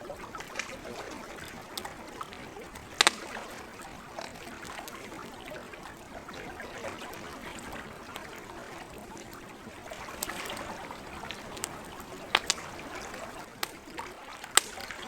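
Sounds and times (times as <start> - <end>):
campfire crackling and popping: 0.0 - 15.0
gentle lake water lapping: 0.0 - 15.0.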